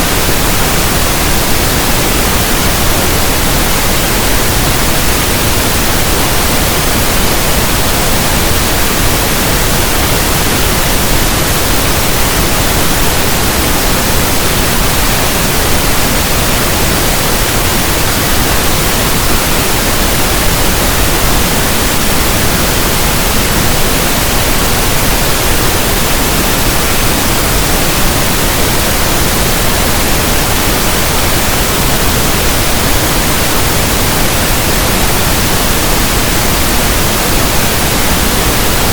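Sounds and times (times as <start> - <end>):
pink noise static hiss: 0.0 - 38.9.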